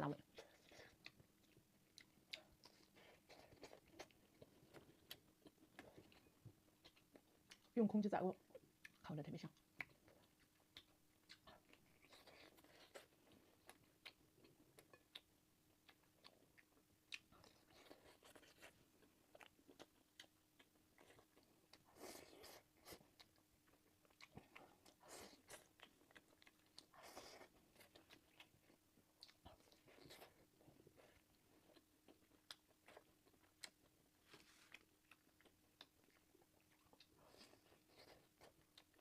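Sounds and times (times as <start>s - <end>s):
person chewing food: 0.2s - 7.8s, 8.5s - 9.0s, 9.6s - 39.0s.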